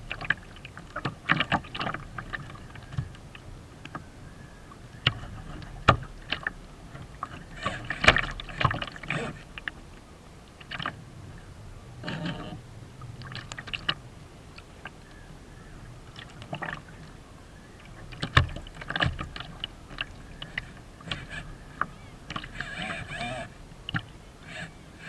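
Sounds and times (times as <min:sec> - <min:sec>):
waves slapping against hull: 0:00.0 - 0:25.0.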